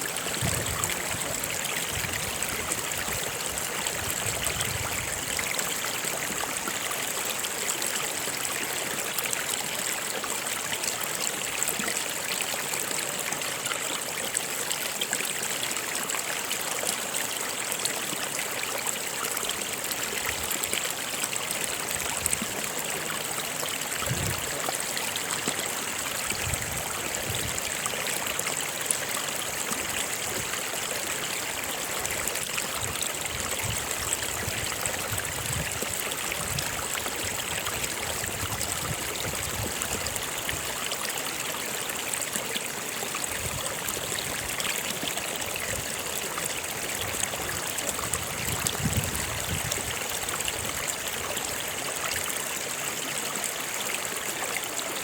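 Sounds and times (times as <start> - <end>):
stream flowing over rocks: 0.0 - 55.0
water gurgling: 0.0 - 55.0.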